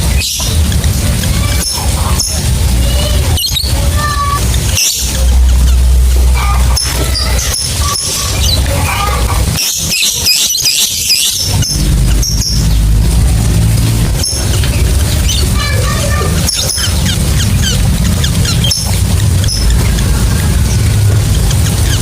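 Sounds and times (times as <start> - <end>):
lovebirds chattering: 0.0 - 22.0
steady low rumble: 0.0 - 22.0.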